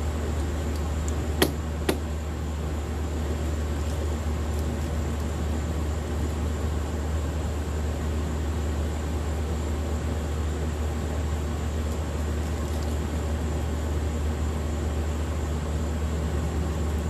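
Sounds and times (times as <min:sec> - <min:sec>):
steady low hum and hiss: 0:00.0 - 0:17.0.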